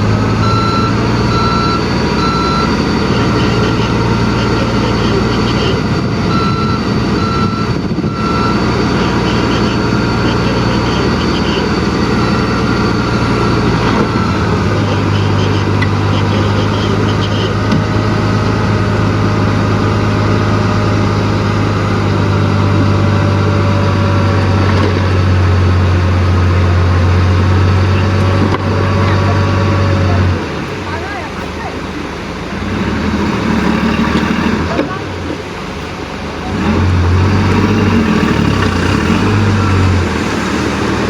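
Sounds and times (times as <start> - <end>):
heavy machinery diesel engine: 0.0 - 41.0.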